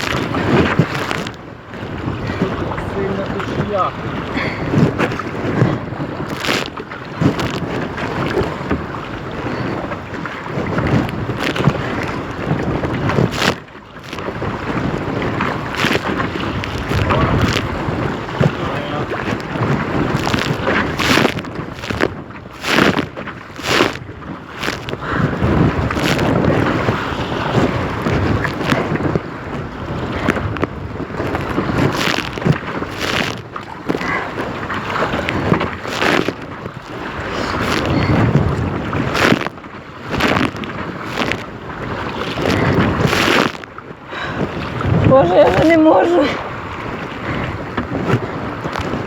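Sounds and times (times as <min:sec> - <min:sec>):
water splashing around kayak: 0:00.0 - 0:49.0
wind buffeting microphone: 0:00.0 - 0:49.0.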